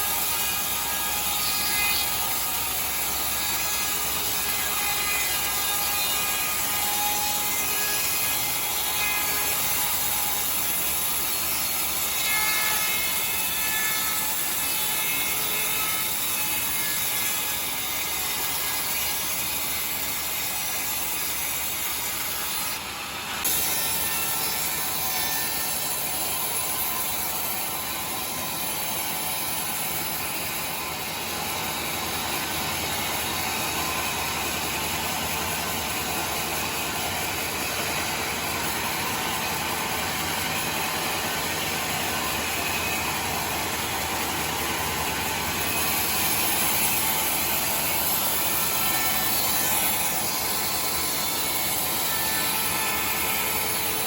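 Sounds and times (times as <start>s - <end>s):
sawmill saw cutting timber: 0.0s - 54.0s.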